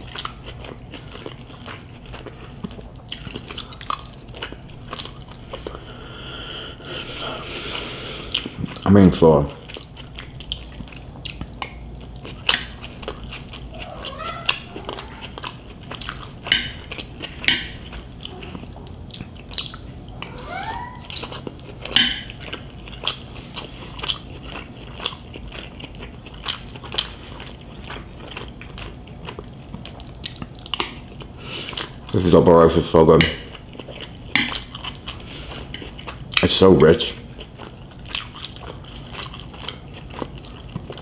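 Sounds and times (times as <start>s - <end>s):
chewing crispy fried pork: 0.0s - 41.0s.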